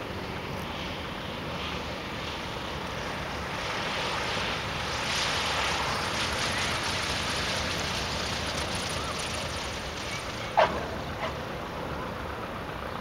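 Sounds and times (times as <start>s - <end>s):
light plane engine and propeller: 0.0s - 13.0s.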